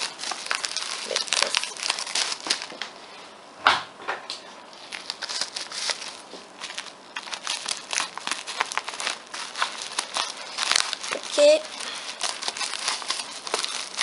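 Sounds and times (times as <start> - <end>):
plastic packaging crinkling: 0.0 - 3.0, 4.7 - 14.0.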